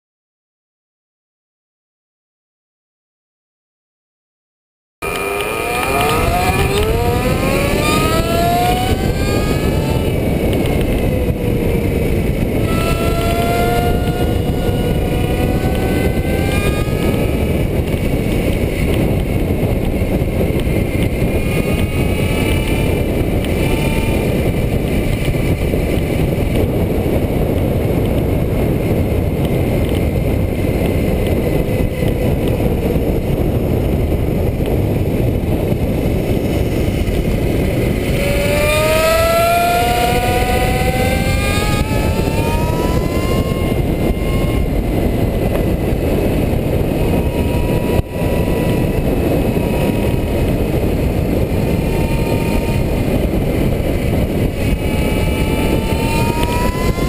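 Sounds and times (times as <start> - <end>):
electric motor whine: 5.0 - 57.0
wind rushing on microphone: 5.0 - 57.0.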